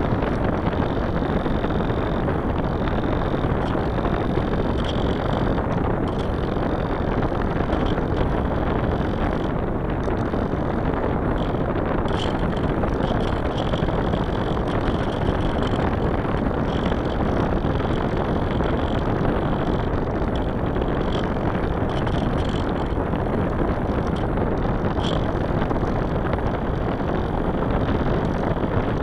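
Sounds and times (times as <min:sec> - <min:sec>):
small aircraft motor drone: 0:00.0 - 0:29.0
wind buffeting microphone: 0:00.0 - 0:29.0.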